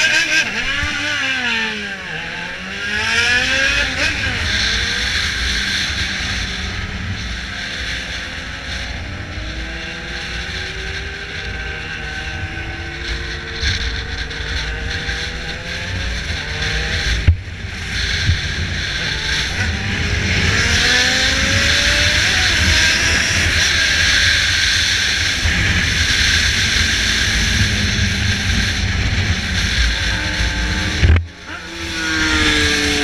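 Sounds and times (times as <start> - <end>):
motorcycle engine revving: 0.0 - 33.0
wind rush on microphone: 3.6 - 33.0.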